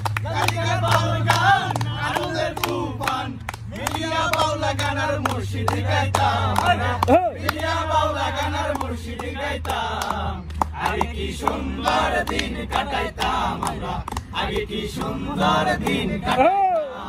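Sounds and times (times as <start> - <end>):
group chanting and shouting: 0.0 - 17.0.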